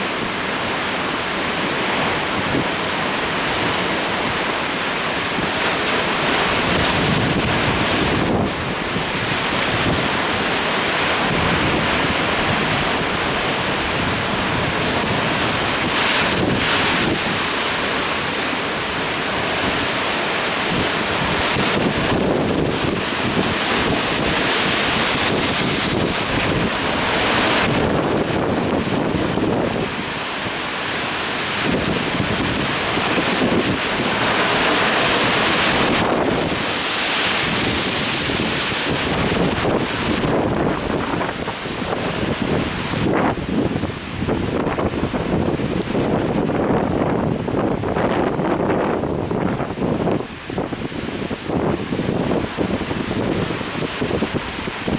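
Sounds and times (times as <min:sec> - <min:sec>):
surf breaking on rocks: 0:00.0 - 0:54.9
wind buffeting microphone: 0:05.2 - 0:30.6, 0:31.5 - 0:54.9.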